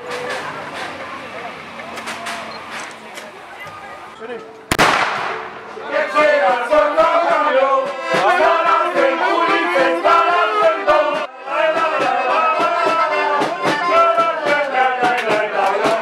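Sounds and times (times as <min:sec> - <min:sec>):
accordion and saxophone tune: 0:02.6 - 0:16.0.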